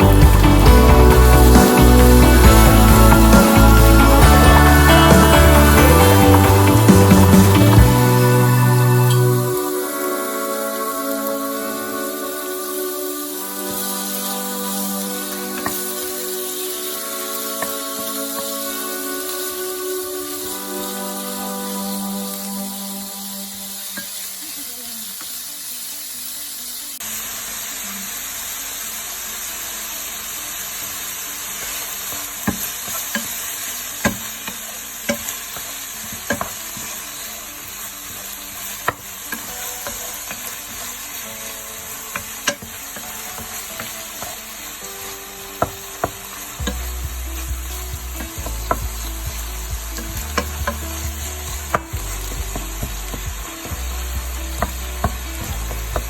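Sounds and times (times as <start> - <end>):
meat sizzling in a pan: 0.0 - 56.0.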